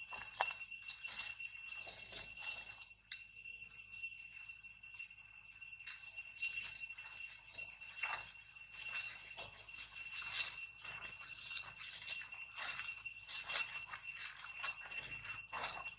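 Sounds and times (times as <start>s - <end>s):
high-pitched insect drone: 0.0s - 15.9s.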